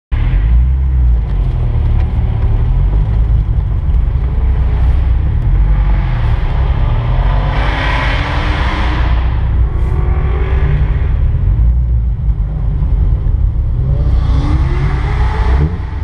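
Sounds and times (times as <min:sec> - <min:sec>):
car engine rumbling: 0:00.1 - 0:16.0.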